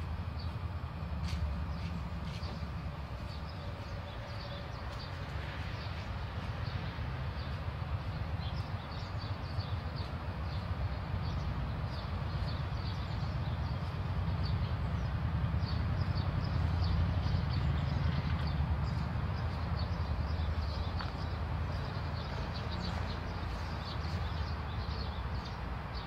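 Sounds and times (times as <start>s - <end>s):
steady low rumble: 0.0s - 26.0s
small birds chirping: 1.2s - 26.0s.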